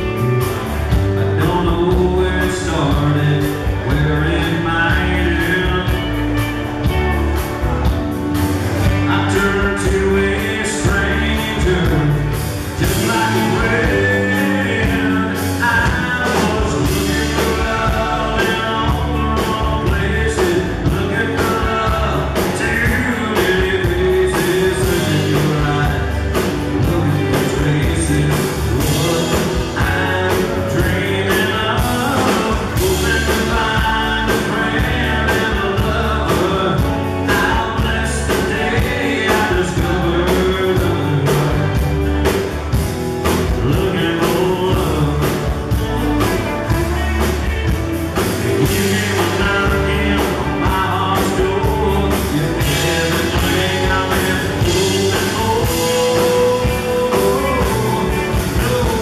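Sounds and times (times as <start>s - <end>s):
lead vocal: 0.0s - 7.0s, 8.8s - 59.0s
acoustic guitar: 0.0s - 59.0s
bass guitar: 0.0s - 59.0s
drum kit beat: 0.0s - 59.0s
electric guitars: 0.0s - 59.0s.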